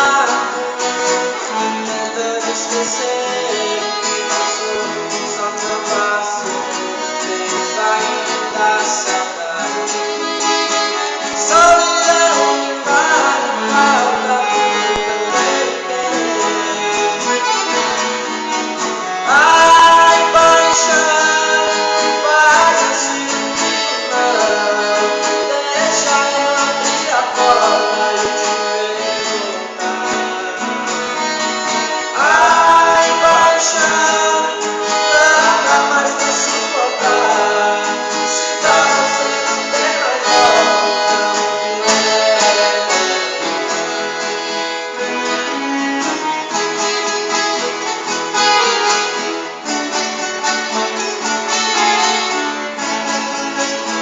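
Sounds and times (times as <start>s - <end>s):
accordion melody: 0.0s - 54.0s
strummed acoustic guitar: 0.0s - 54.0s.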